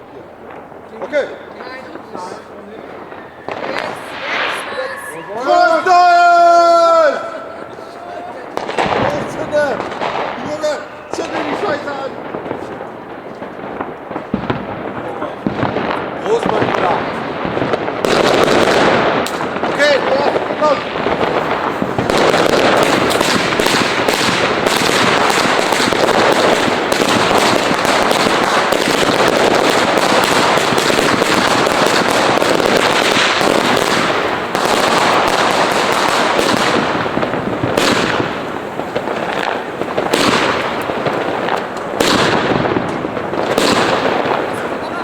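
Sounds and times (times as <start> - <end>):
fireworks and firecrackers banging: 0.0 - 45.0.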